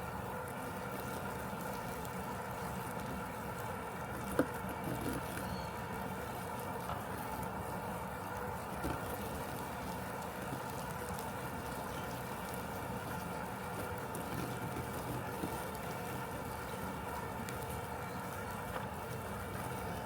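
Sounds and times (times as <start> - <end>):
robotic lawn mower humming: 0.0 - 20.0.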